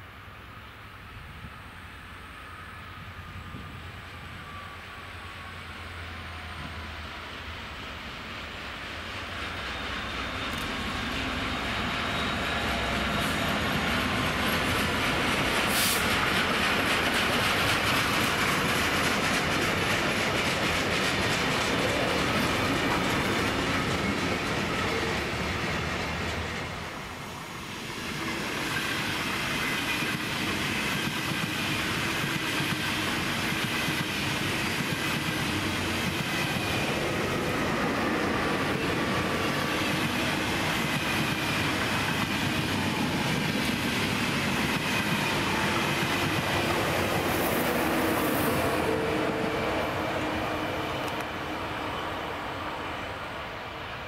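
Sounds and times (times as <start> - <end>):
train wheels rolling on rails: 0.6 - 54.0.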